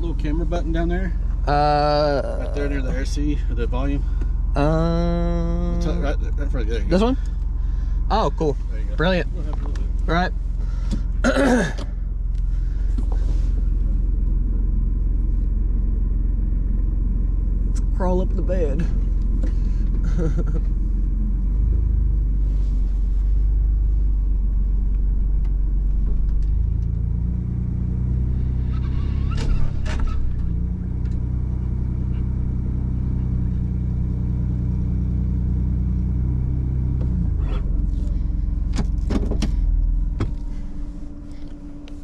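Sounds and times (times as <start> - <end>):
truck engine running at low speed: 0.0 - 42.0.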